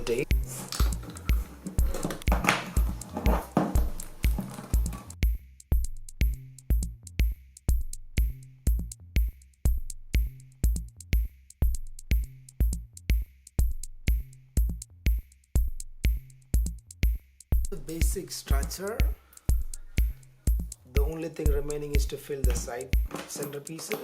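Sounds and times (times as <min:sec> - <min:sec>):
music with electronic drum beat: 0:00.0 - 0:24.0.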